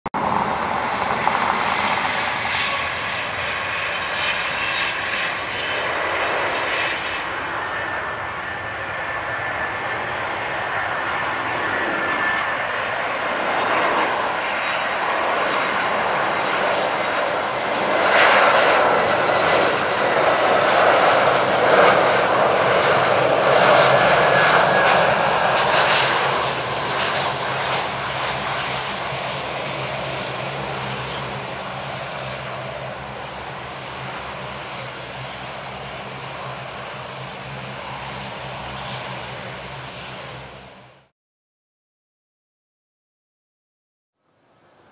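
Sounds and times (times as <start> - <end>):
jet engines rushing with whine: 0.2 - 41.1.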